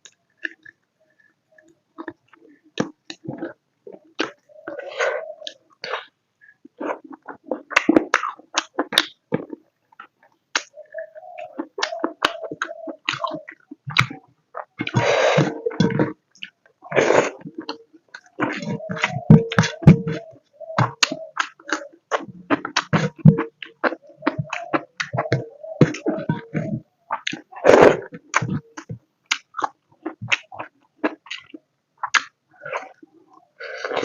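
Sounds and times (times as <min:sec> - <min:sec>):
wet chewing and lip smacks: 0:00.0 - 0:06.1, 0:06.7 - 0:10.8, 0:11.4 - 0:33.0.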